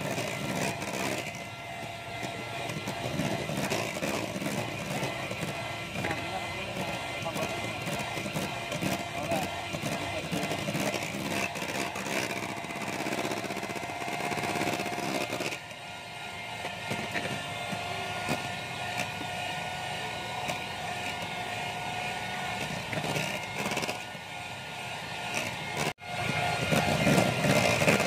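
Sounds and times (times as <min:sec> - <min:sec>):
electric mixer running: 0:00.0 - 0:28.0.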